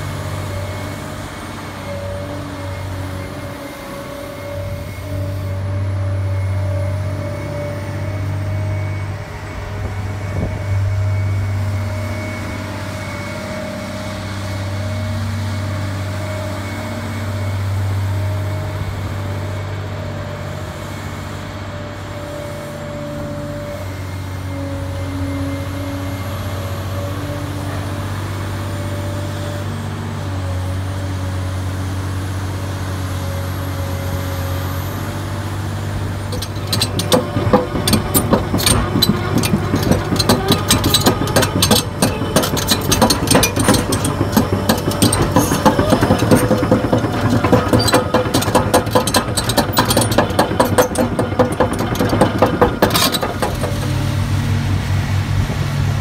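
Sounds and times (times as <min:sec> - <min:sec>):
excavator diesel engine hum: 0:00.0 - 0:56.0
hydraulic whine: 0:00.0 - 0:56.0.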